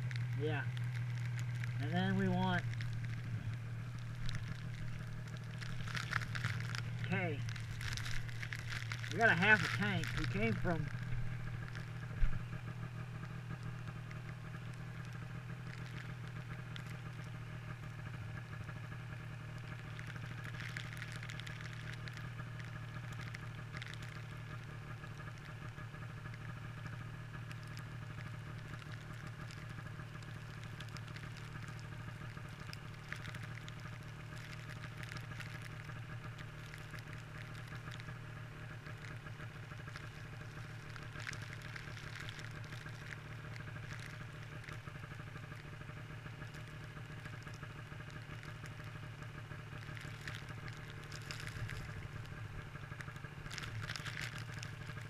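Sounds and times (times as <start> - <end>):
snowmobile engine idling: 0.0 - 55.0.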